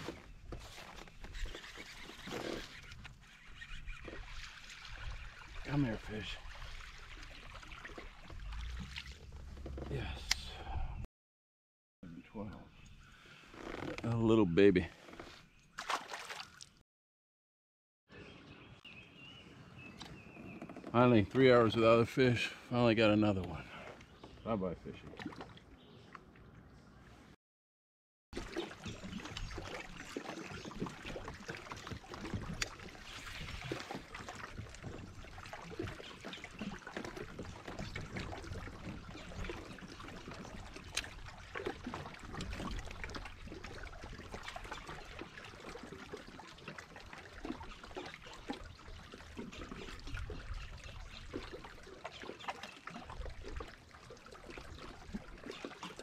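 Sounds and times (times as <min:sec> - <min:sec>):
water lapping against kayak hull: 0:00.0 - 0:11.0, 0:12.4 - 0:16.8, 0:19.4 - 0:27.4, 0:28.4 - 0:56.0.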